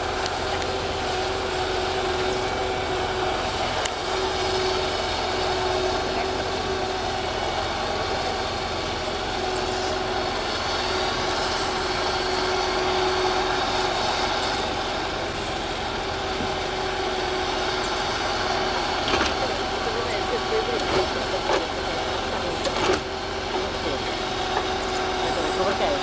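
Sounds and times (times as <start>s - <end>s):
constant whine: 0.0s - 26.0s
heavy equipment engine running: 0.0s - 26.0s.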